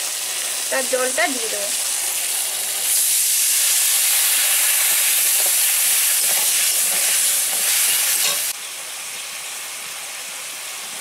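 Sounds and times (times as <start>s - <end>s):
liquid hissing in hot oil: 0.0s - 11.0s.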